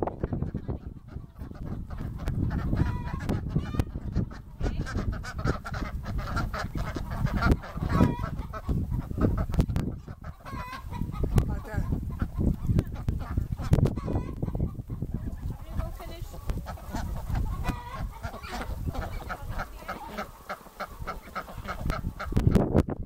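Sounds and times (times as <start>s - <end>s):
ducks quacking: 0.0s - 22.7s
hens clucking: 0.0s - 22.8s.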